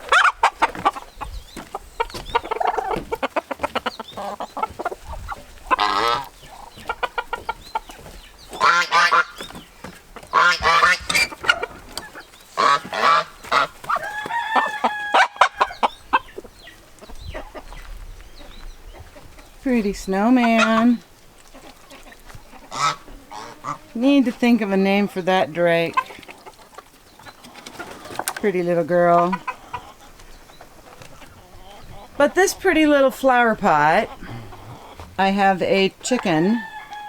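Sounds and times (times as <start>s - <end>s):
poultry honking calls: 0.0s - 16.8s, 19.7s - 21.0s, 21.6s - 37.0s
chickens clucking: 0.0s - 37.0s.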